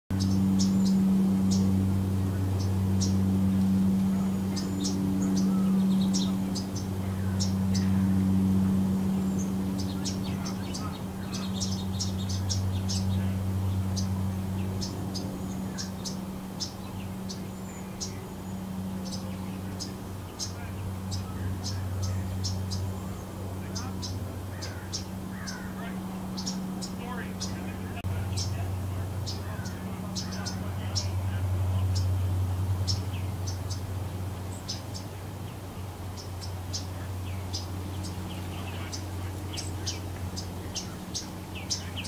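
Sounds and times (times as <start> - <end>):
low machine hum: 0.1 - 42.0
small birds chirping: 0.1 - 42.0.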